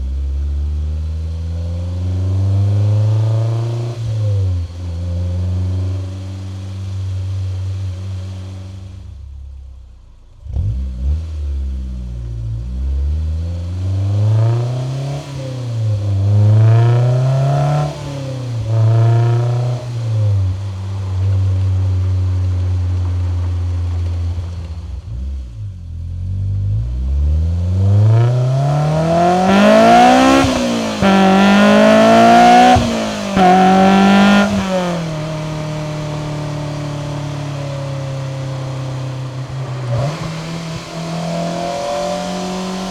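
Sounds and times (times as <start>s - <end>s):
car engine accelerating through gears: 0.0s - 9.0s, 10.4s - 42.9s.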